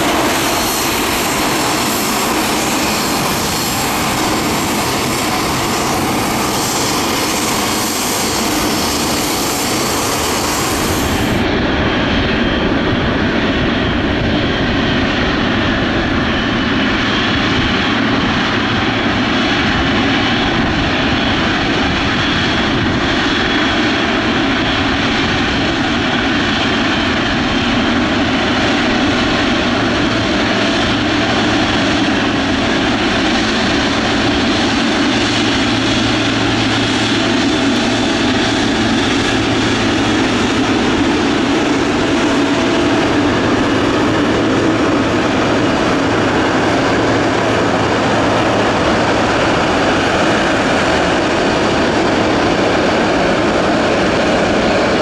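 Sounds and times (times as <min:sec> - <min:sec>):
jet engines at take-off thrust: 0:00.0 - 0:55.0.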